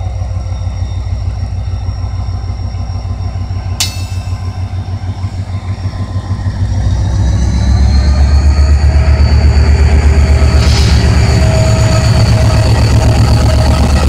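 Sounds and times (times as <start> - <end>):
diesel locomotive engine rumble: 0.0 - 14.0
high whine: 0.3 - 14.0.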